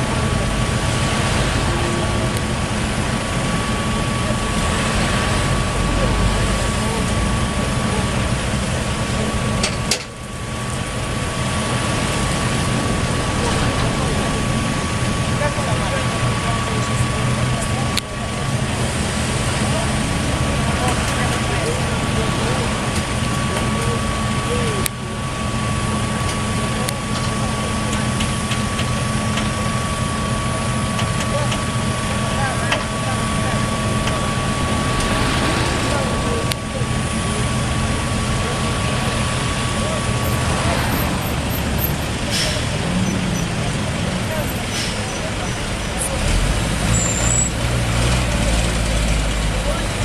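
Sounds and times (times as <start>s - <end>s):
heavy vehicle engine running: 0.0s - 50.0s.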